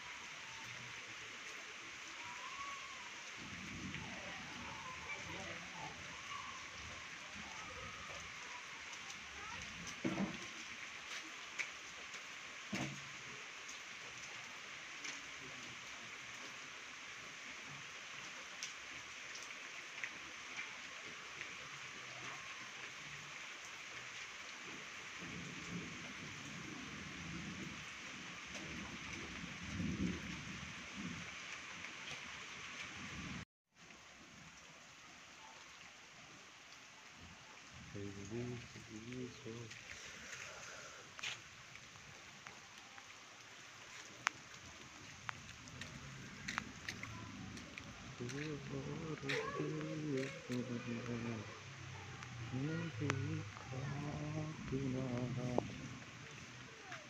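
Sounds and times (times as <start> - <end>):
steady rain falling: 0.0 - 57.0
rain drop ticks: 4.0 - 16.6, 17.7 - 33.1, 36.6 - 57.0.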